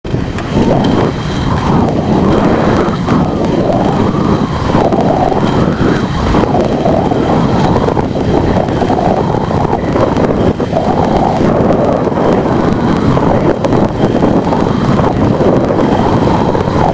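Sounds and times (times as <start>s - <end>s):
wind on microphone: 0.0s - 16.9s
skate wheels rolling on asphalt: 0.1s - 16.9s.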